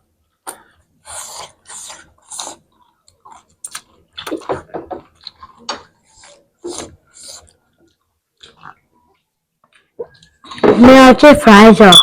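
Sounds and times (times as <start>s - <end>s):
chewing and lip smacks: 0.4s - 10.6s.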